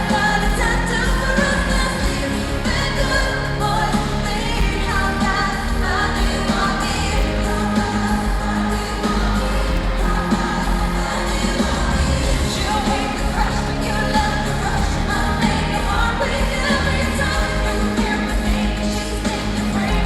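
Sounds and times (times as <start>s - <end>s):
live pop band playing: 0.0s - 20.0s
woman singing lead: 0.0s - 20.0s.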